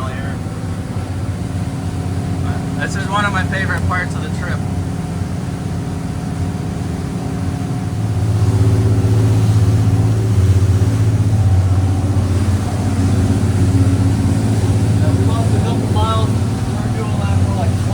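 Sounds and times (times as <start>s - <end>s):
boat diesel engines droning: 0.0s - 17.9s.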